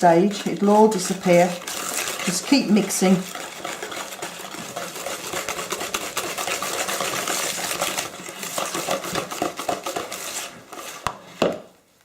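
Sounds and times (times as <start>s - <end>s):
hand whisk beating batter: 0.0s - 11.7s.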